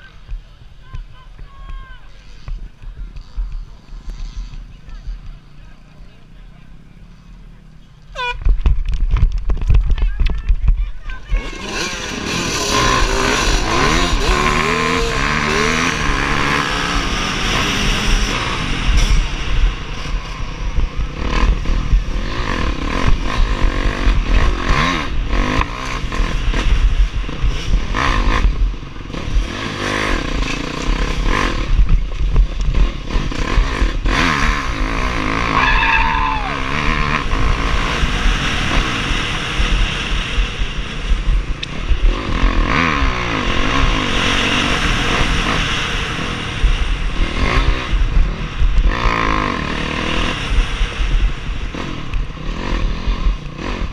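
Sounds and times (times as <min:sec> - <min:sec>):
dirt bike engine revving: 0:00.0 - 0:08.5, 0:11.0 - 0:53.9
wind rumble on microphone: 0:08.2 - 0:11.7, 0:12.9 - 0:53.9.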